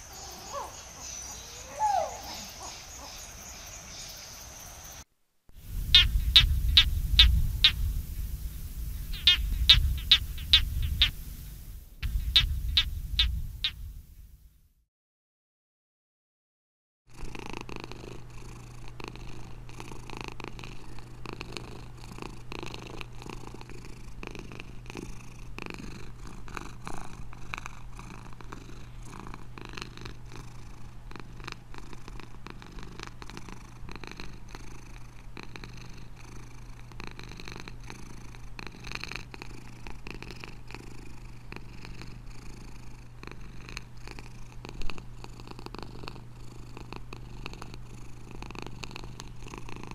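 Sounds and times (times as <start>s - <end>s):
cat purring: 5.6s - 14.4s, 17.2s - 49.9s.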